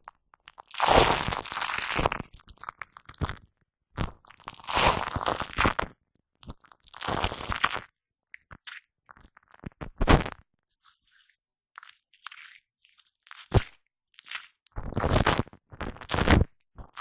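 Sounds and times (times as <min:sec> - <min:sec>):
shaving foam crackling and popping: 0:00.4 - 0:17.0.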